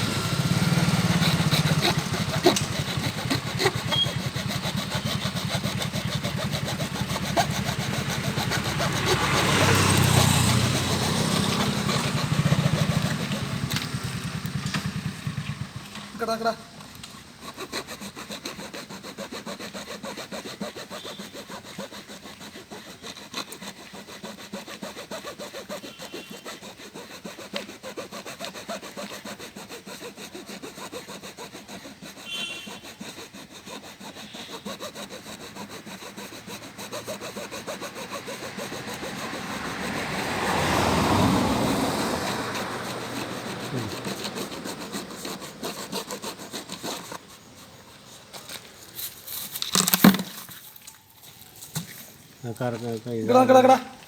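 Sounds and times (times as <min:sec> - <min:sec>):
blade sawing hard plastic: 0:00.0 - 0:54.0.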